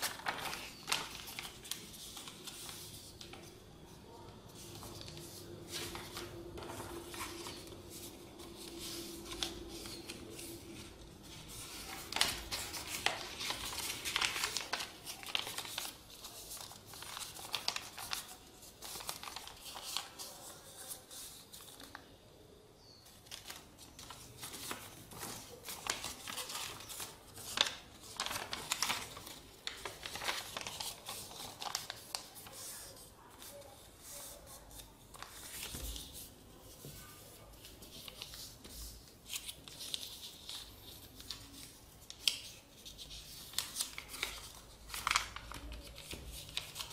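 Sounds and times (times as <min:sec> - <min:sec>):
paper folding rustles: 0:00.0 - 0:22.1, 0:23.0 - 0:46.9.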